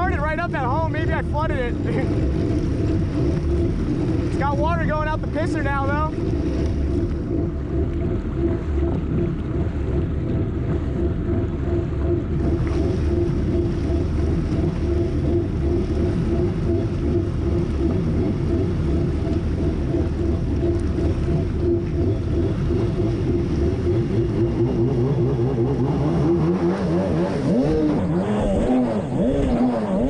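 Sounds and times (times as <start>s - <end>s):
jet ski engine running: 0.0s - 30.0s.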